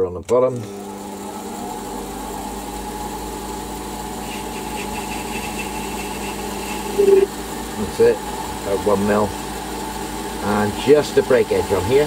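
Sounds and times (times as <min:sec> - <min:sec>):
metal lathe motor humming: 0:00.6 - 0:12.0.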